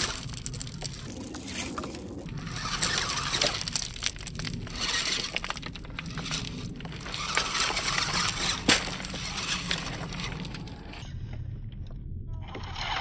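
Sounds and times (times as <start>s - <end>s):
pebbles clinking and crunching: 0.0s - 11.0s.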